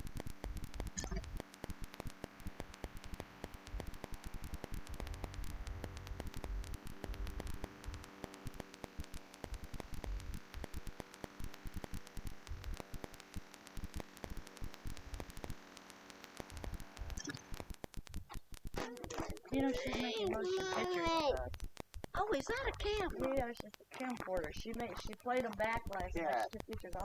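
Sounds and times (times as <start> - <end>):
crackling static clicks: 0.0 - 27.0
steady electrical hum: 0.0 - 27.0.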